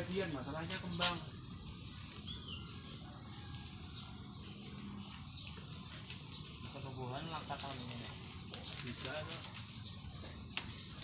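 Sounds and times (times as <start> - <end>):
insects shrilling drone: 0.0 - 11.0.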